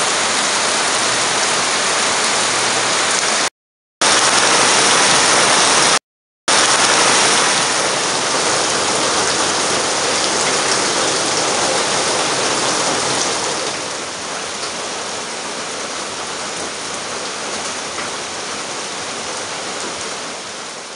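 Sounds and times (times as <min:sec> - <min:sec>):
heavy rain on foliage: 0:00.0 - 0:20.9.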